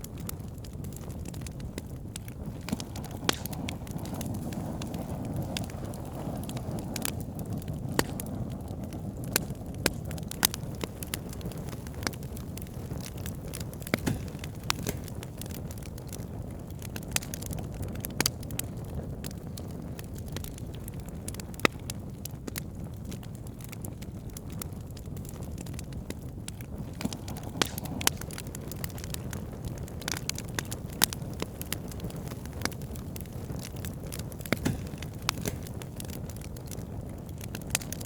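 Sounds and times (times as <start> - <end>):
campfire crackling: 0.0 - 38.0
sharp pops and snaps of fire: 0.0 - 38.0.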